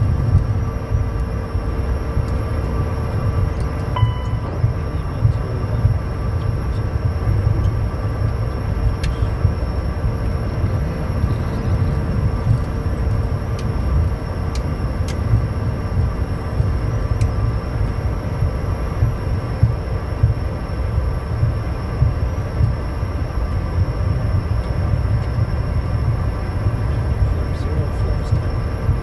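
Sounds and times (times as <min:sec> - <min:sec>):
steady low rumble: 0:00.0 - 0:29.0
thin turbofan whine: 0:00.0 - 0:29.0.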